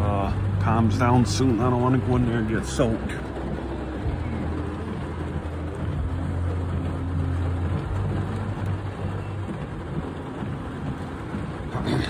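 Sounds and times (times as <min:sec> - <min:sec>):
heavy rain on a vehicle: 0:00.0 - 0:12.0
low steady hum: 0:00.0 - 0:12.0.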